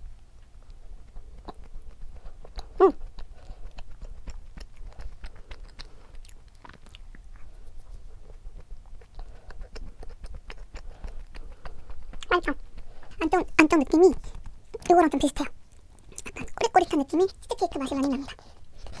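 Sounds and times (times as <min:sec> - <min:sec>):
wet chewing mouth clicks: 0:00.4 - 0:19.0.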